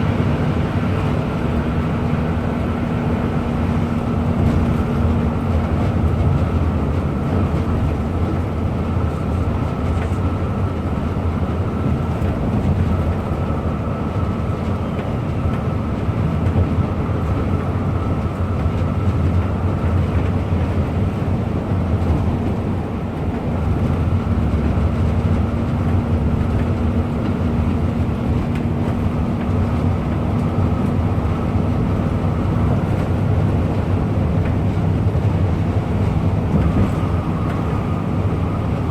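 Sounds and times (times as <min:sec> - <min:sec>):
bus engine drone and road noise: 0:00.0 - 0:38.9.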